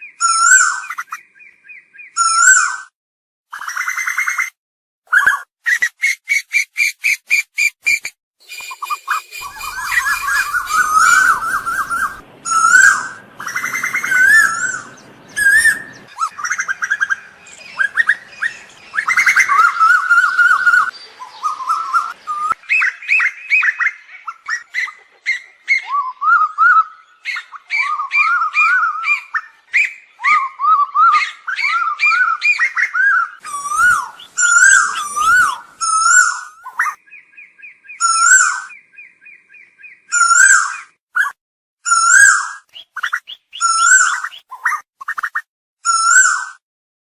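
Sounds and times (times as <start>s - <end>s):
bird whistled calls: 0.0s - 2.9s, 5.1s - 46.6s.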